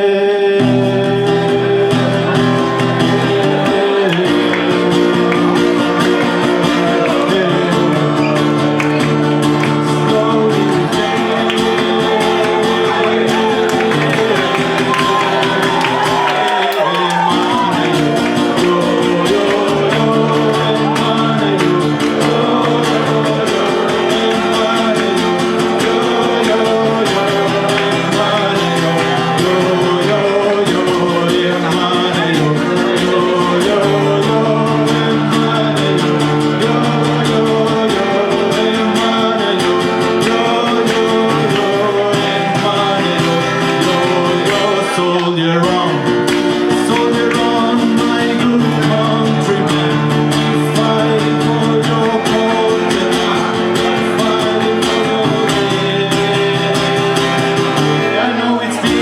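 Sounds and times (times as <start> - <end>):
acoustic guitar chords: 0.0 - 59.0
person singing: 0.0 - 59.0.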